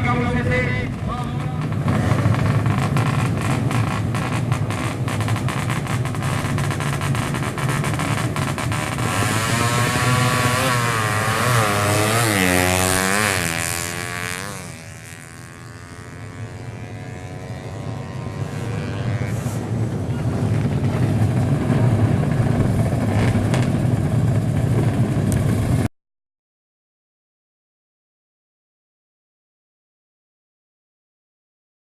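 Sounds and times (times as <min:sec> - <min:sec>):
motorcycle accelerating through gears: 0:00.0 - 0:25.9
rush of noise: 0:00.0 - 0:25.9.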